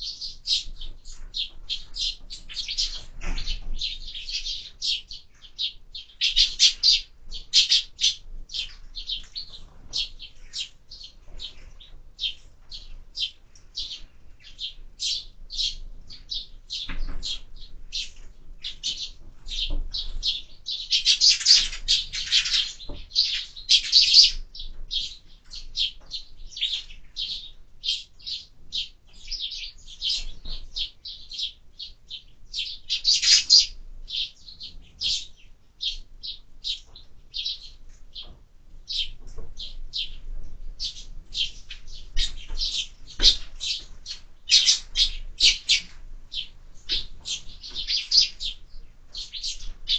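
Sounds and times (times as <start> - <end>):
sparrows chirping: 0.0 - 49.9.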